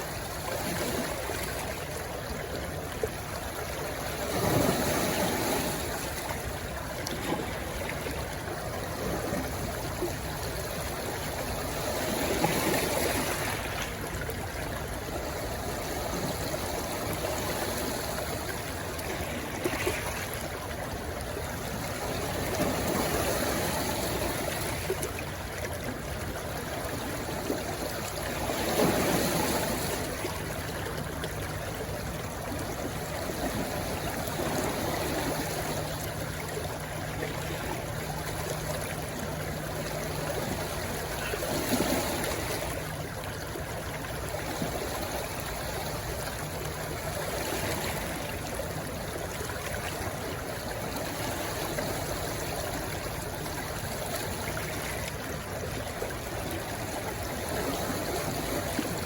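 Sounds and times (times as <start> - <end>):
stream rushing into sea: 0.0 - 59.0.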